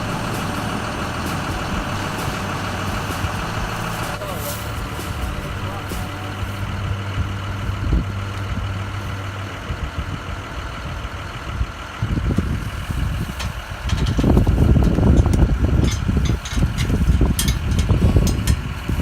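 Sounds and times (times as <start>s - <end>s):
low rumbling: 0.0s - 19.0s
vehicle engine humming: 0.0s - 19.0s.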